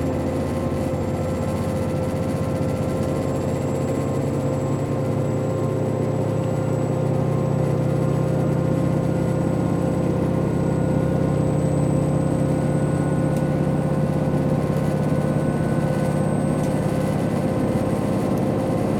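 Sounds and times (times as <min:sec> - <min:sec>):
diesel railcar engine running: 0:00.0 - 0:18.9
high-pitched whine: 0:00.0 - 0:18.9.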